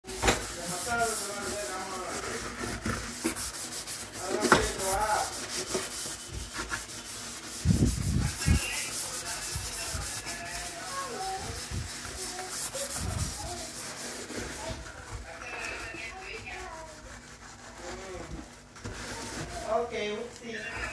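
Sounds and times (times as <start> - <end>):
sponge scrubbing metal sink: 0.0 - 20.9.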